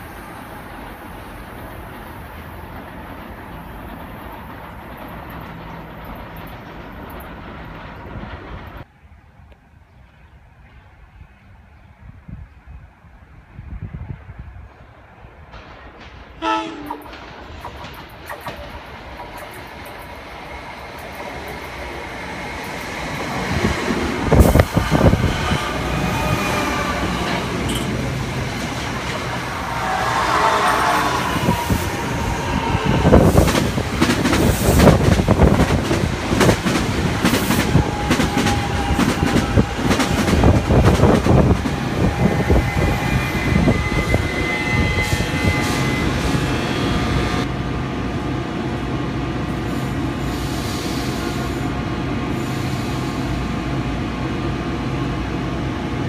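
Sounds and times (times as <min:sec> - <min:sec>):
electric train passing: 0:00.0 - 0:11.7, 0:13.3 - 0:56.0.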